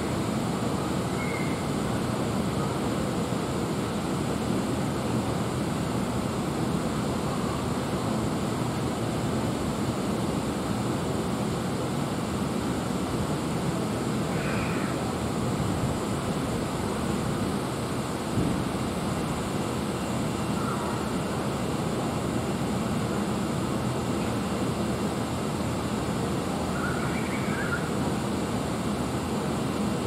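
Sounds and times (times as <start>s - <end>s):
waterfront background rumble and hiss: 0.0s - 30.0s.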